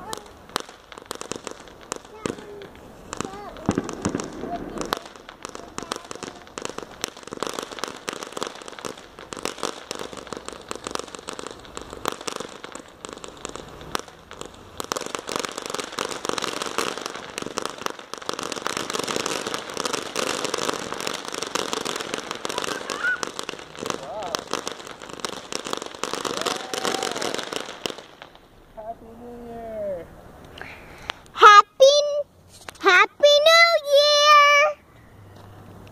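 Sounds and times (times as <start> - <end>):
firework crackling hiss: 0.0 - 35.9.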